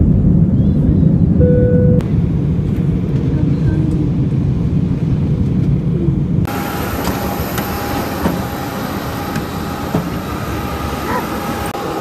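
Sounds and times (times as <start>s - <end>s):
jet cabin rumble: 0.0s - 12.0s
mechanical whine and hum: 0.0s - 12.0s.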